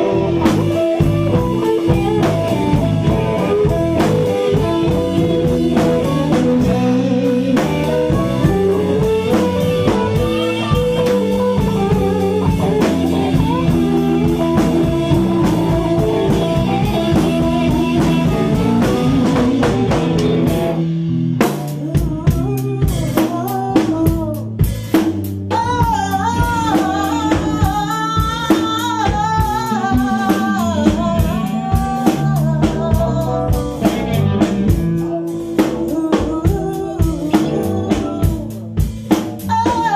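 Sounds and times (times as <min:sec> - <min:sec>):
woman singing: 0:00.0 - 0:20.6, 0:21.4 - 0:39.9
electric guitar lead: 0:00.0 - 0:39.9
live blues band: 0:00.0 - 0:39.9.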